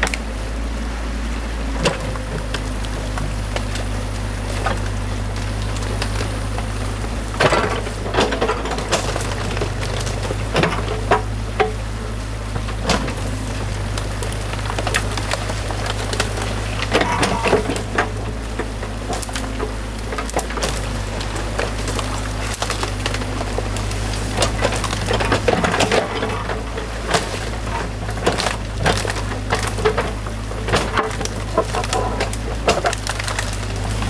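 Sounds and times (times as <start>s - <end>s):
sticks and branches cracking: 0.0s - 0.4s, 1.8s - 34.0s
excavator diesel engine droning: 0.0s - 34.0s.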